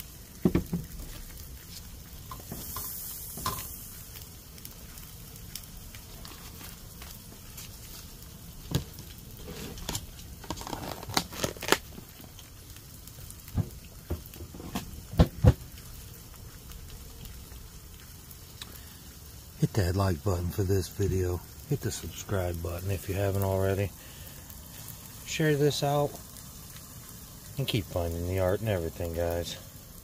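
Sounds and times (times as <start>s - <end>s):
low steady background noise: 0.0s - 30.0s.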